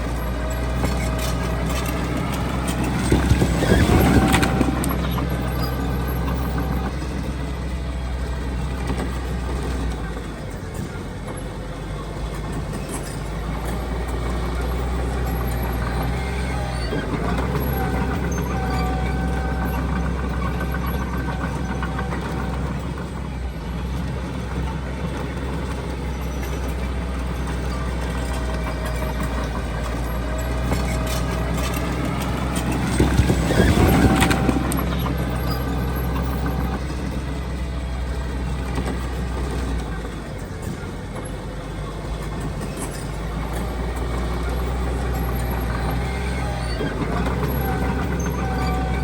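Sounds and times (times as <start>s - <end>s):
heavy diesel engines droning: 0.0s - 49.0s.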